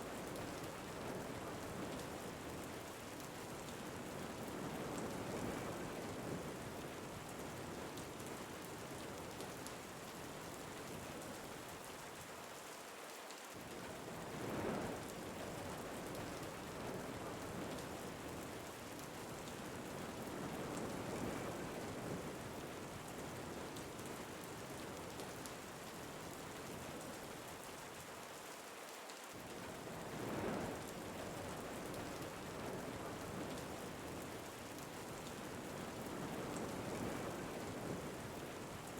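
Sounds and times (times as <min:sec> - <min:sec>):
steady rain: 0:00.0 - 0:38.9
wind: 0:00.0 - 0:38.9.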